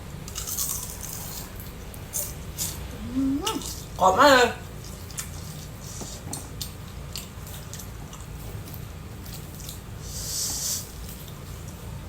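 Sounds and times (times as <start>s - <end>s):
chewing crunchy fruit: 0.2s - 12.0s.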